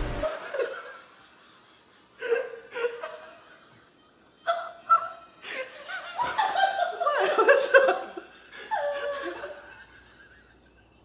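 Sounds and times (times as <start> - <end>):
people laughing: 0.2 - 11.0.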